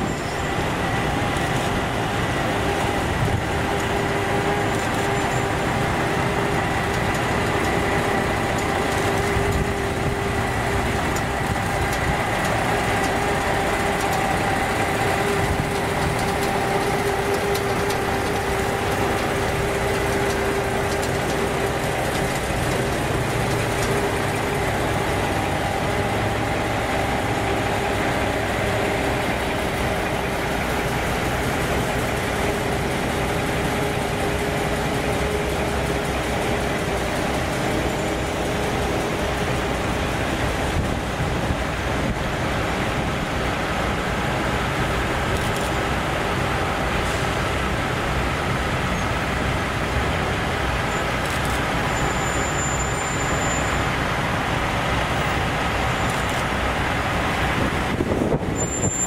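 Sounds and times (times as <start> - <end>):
steady whine: 0.0 - 59.0
truck diesel engines idling: 0.0 - 59.0.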